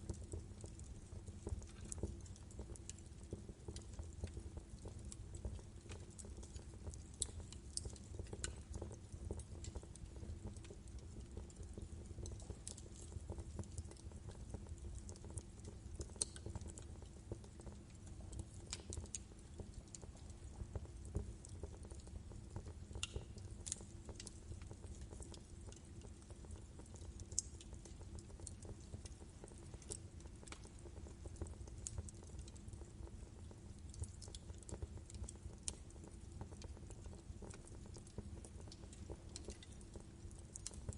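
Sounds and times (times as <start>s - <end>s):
logs crackling and popping: 0.0s - 40.9s
low rumble of flames: 0.0s - 40.9s.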